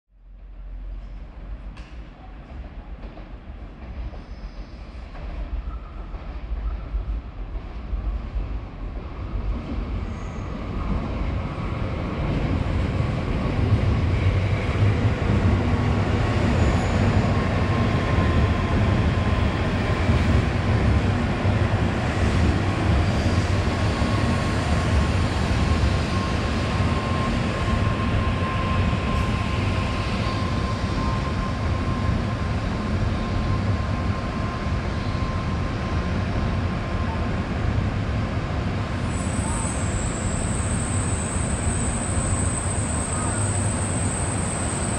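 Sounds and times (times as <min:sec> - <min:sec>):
train rumble: 0:00.2 - 0:44.9.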